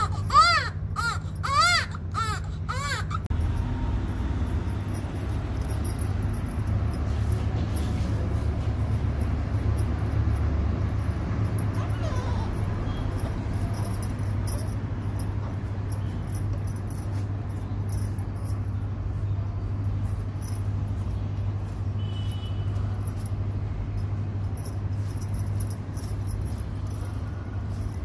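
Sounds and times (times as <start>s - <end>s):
bangles jingling: 0.0s - 28.0s
steady low hum: 0.0s - 28.0s.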